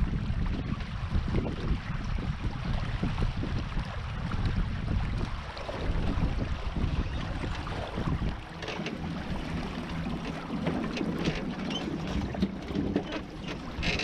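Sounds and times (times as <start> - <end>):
wind buffeting microphone: 0.0 - 14.0
water washing: 2.2 - 14.0.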